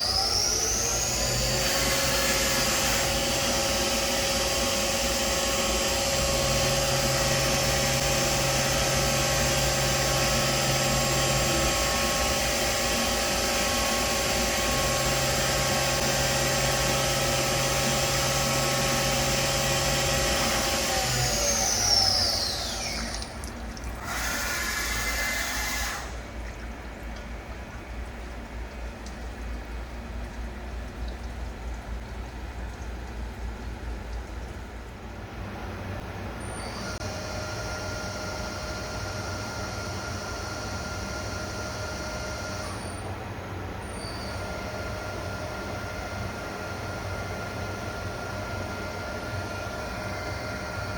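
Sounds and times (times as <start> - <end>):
mill spindle whining: 0.0 - 26.4, 36.4 - 50.9.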